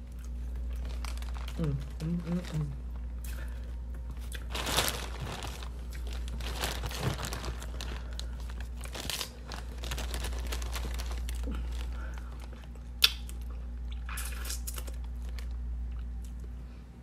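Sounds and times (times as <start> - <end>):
low steady hum: 0.0 - 17.0
plastic bag crinkling: 0.3 - 12.8, 14.2 - 15.6.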